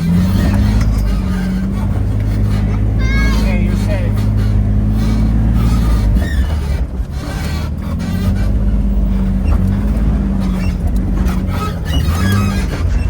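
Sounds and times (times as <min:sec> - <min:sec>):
vehicle engine running low: 0:00.0 - 0:13.0.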